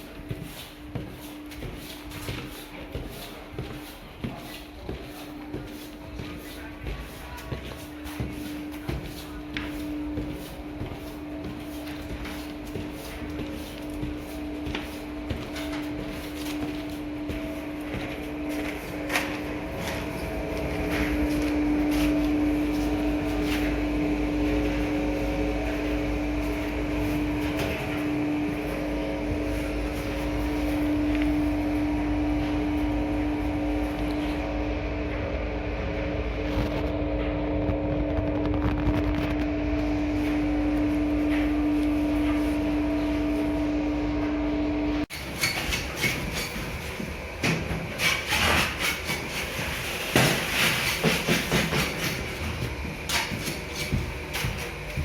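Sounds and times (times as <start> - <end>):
machine humming and rumbling: 0.0 - 55.0.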